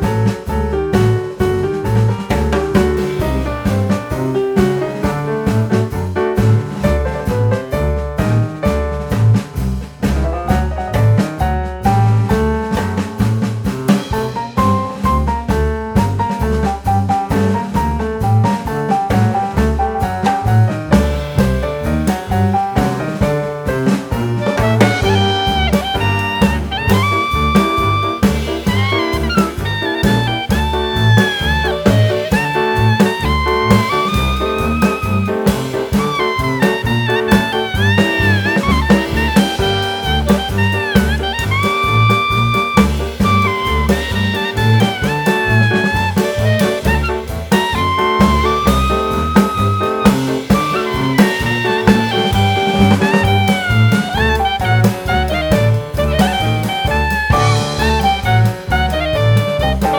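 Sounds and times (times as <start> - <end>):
jazz music with saxophone: 0.0 - 59.9.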